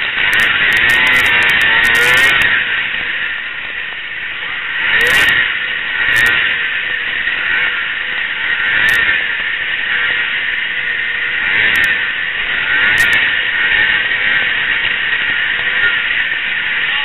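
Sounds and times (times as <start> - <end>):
snowmobile engine roaring: 0.0 - 17.0.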